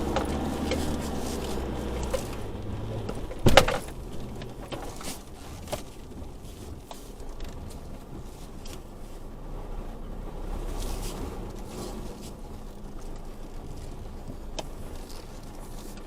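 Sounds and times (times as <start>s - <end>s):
light clicks and rattles: 0.0s - 9.2s, 10.7s - 16.0s
low vehicle rumble: 0.0s - 16.0s.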